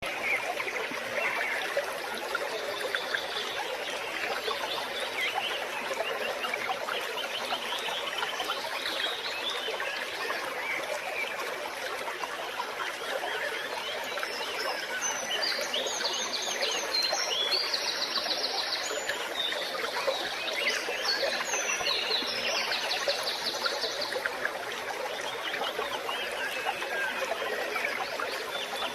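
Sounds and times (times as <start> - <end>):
forest stream flowing: 0.0 - 28.9.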